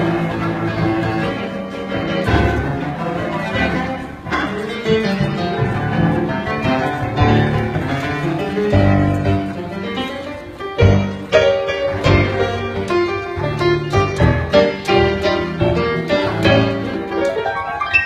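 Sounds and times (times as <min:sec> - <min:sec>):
bowed cello melody: 0:00.0 - 0:17.8.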